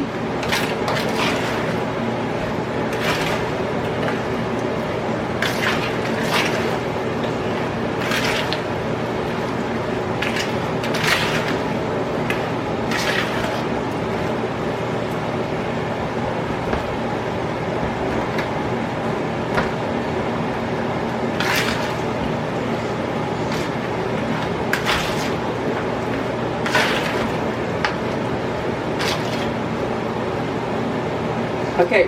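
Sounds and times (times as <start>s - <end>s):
steady low hum: 0.0s - 32.0s
wet squishing of hand mixing: 0.4s - 29.9s.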